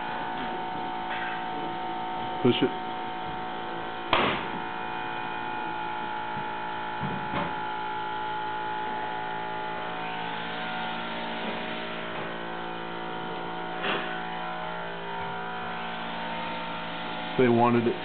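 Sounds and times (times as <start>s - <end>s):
steady buzzing hum: 0.0s - 18.0s.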